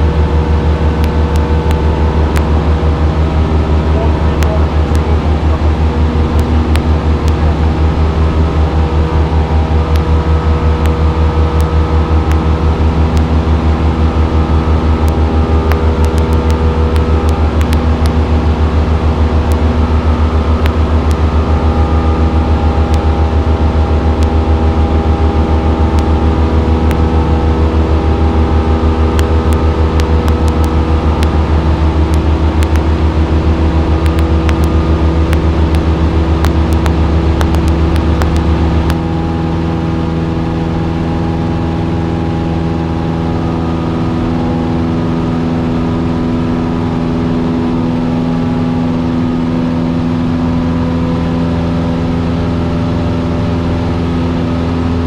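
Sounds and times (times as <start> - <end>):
light airplane engine drone: 0.0 - 55.0.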